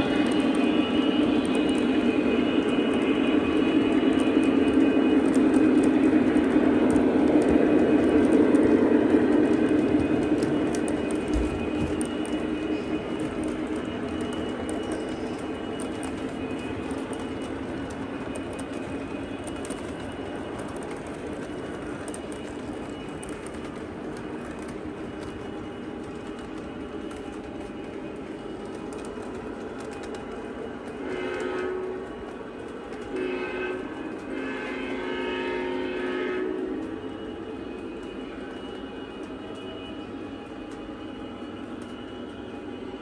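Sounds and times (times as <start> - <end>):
wheels rumbling on track: 0.0 - 43.0.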